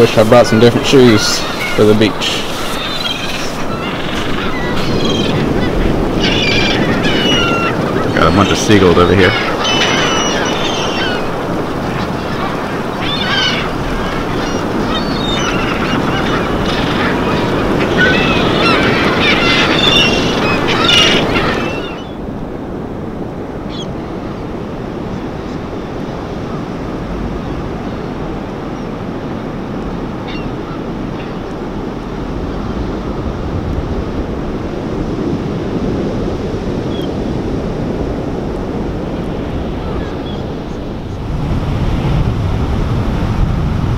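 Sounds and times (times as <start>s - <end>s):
seagulls calling: 0.0s - 35.6s, 36.6s - 37.6s, 39.0s - 41.2s
surf: 0.0s - 43.9s
wind: 0.0s - 43.9s.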